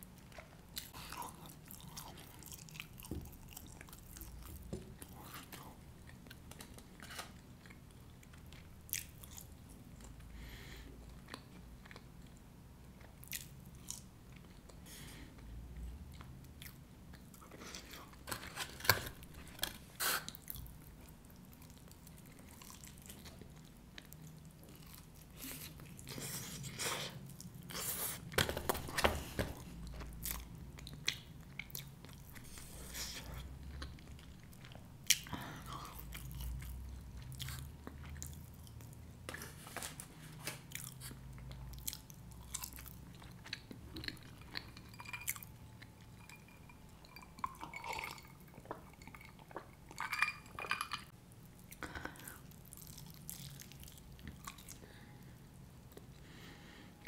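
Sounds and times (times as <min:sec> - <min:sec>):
chewing and crunching food: 0:00.0 - 0:56.4.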